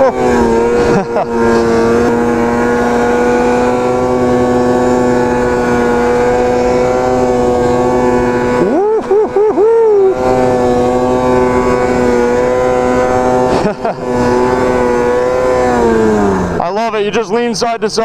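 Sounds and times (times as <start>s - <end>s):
tone sweeping up and down: 0.0s - 16.6s
snowmobile engine at high revs: 0.0s - 18.0s.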